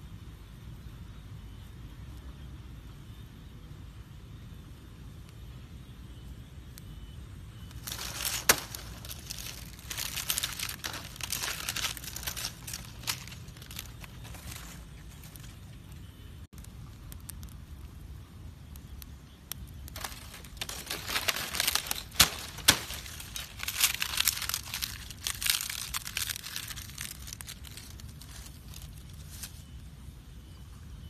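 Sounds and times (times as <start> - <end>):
palm leaves crackling in fire: 0.5 - 30.6.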